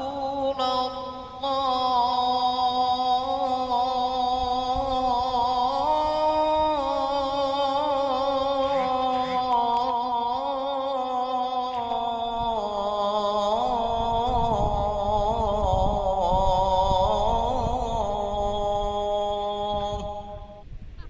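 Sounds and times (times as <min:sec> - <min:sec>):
person singing devotional song: 0:00.0 - 0:20.6.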